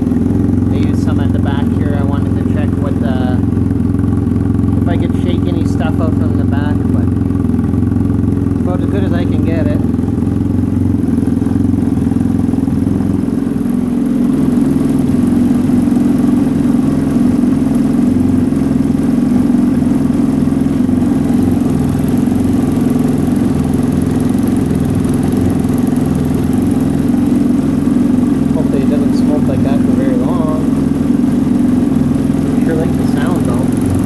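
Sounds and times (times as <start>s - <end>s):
engine idling with deep exhaust: 0.0s - 34.0s.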